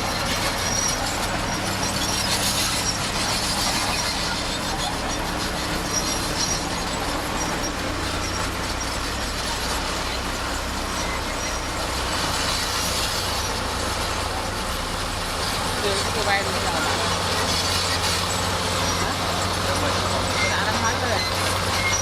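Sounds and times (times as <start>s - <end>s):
bulldozer diesel engine: 0.0s - 22.0s
steel tracks clanking and squealing: 0.0s - 22.0s.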